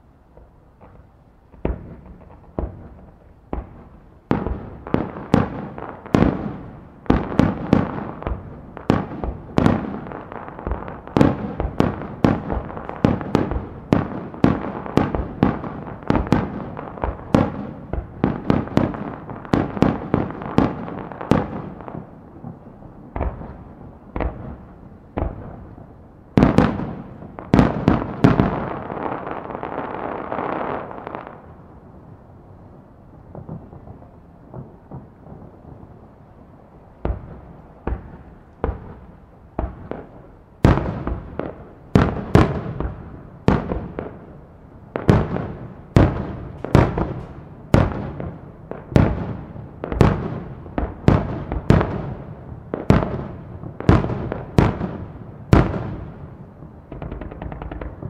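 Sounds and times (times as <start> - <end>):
fireworks bursting with bangs: 0.0 - 31.5, 33.1 - 58.0
firework crackle: 0.0 - 58.0.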